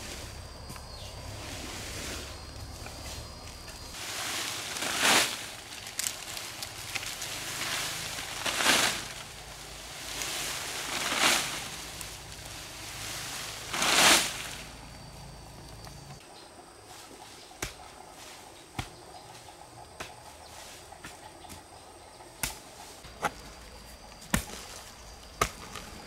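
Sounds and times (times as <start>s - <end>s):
leaves rustling: 0.0s - 26.0s.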